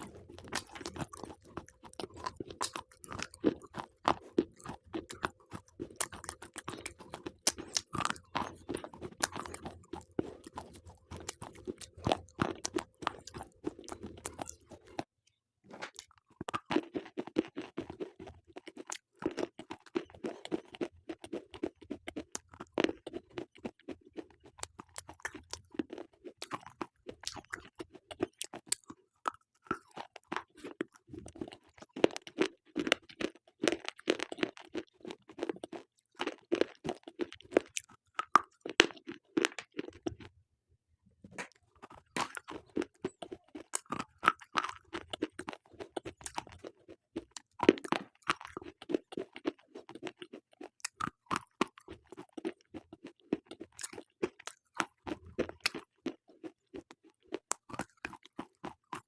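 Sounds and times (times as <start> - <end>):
slate pencils being chewed: 0.0 - 15.1, 15.8 - 40.3, 41.3 - 59.0.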